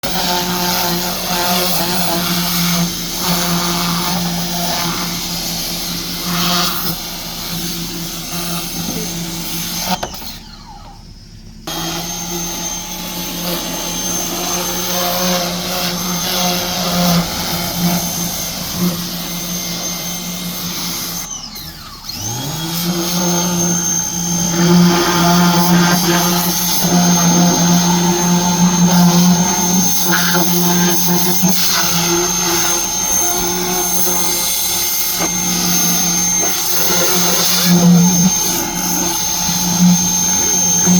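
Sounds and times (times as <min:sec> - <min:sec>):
pressure washer motor humming: 0:00.0 - 0:40.9.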